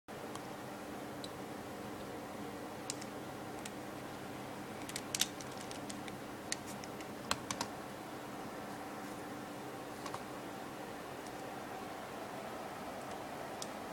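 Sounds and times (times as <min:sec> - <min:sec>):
steady low hum: 0:00.1 - 0:13.9.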